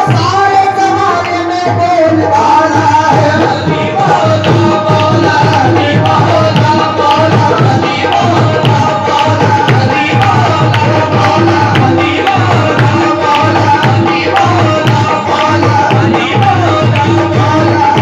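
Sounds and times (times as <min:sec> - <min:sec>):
tabla beat: 0:00.0 - 0:18.0.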